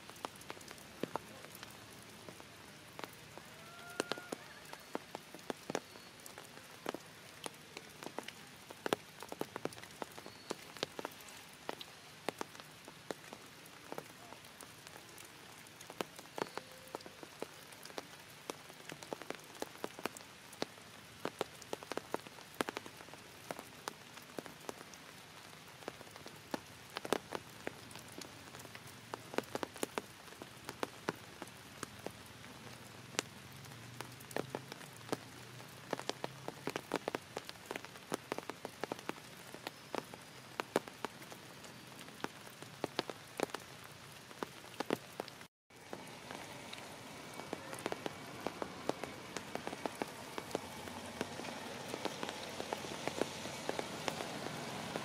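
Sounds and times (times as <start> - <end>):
rain falling: 0.0 - 55.0
raindrops hitting a surface: 0.0 - 55.0.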